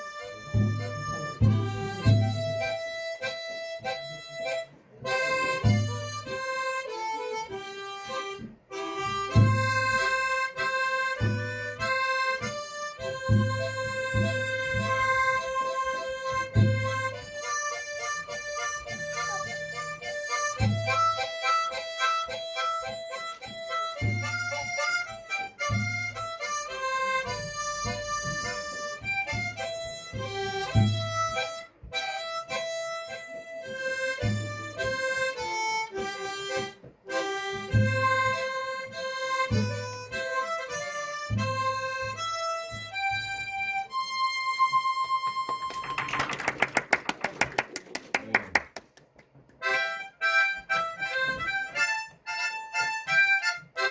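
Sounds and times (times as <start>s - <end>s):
harmonica melody: 0.0s - 46.2s, 49.6s - 53.9s
backing track bass beat: 0.1s - 43.8s.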